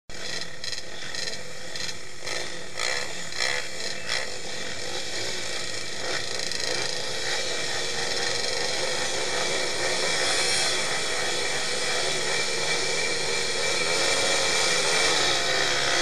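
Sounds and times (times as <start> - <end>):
pit bike engines revving: 0.1 - 16.0.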